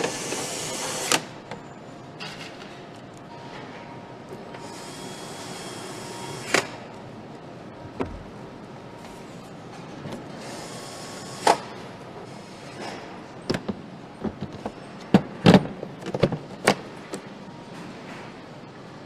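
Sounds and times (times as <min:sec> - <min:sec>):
factory background din: 0:00.0 - 0:19.0.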